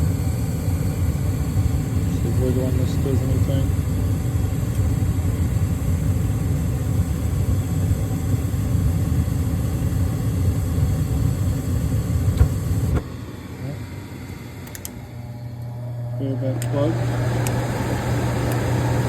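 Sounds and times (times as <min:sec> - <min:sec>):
fan motor rumbling: 0:00.0 - 0:19.0.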